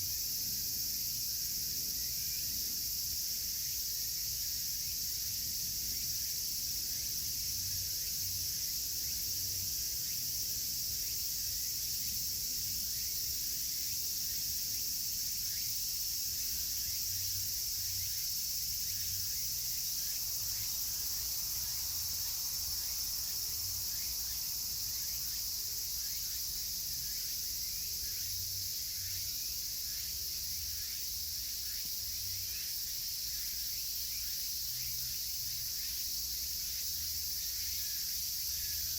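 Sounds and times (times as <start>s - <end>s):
cicadas chorus: 0.0s - 38.9s.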